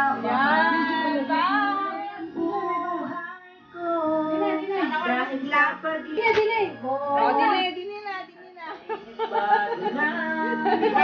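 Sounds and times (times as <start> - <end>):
karaoke music track: 0.0 - 11.0.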